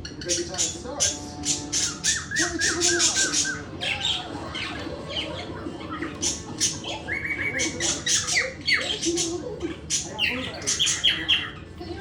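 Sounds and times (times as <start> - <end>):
pet birds chirping and squawking: 0.0 - 12.0.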